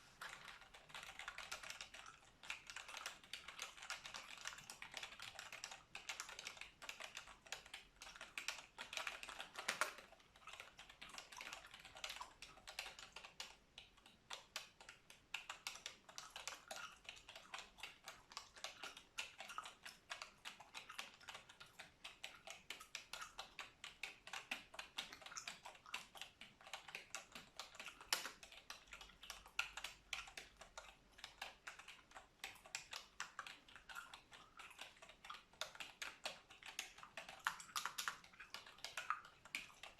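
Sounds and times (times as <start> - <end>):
keyboard typing clicks: 0.2 - 34.2.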